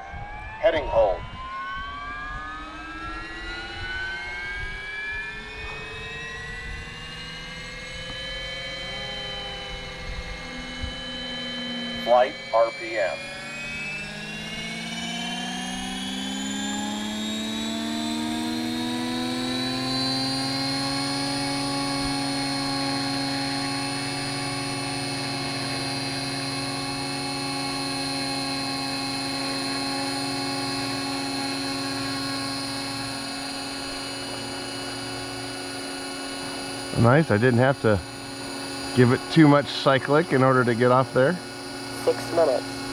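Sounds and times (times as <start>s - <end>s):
model helicopter motor whine: 0.0s - 42.9s.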